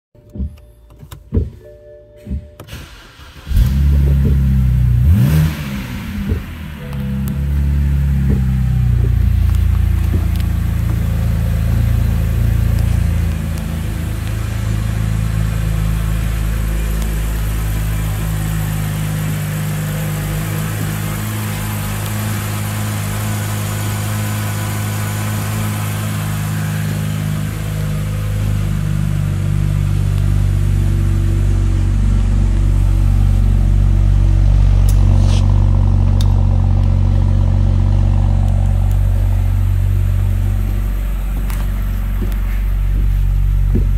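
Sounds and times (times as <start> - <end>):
car engine idling: 2.7 - 43.9.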